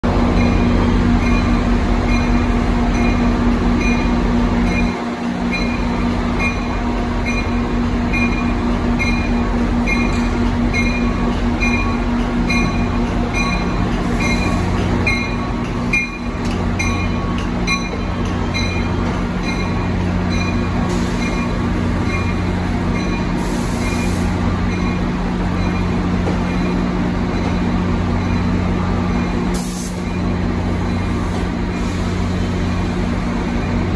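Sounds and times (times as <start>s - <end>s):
locomotive bell ringing: 0.1s - 31.4s.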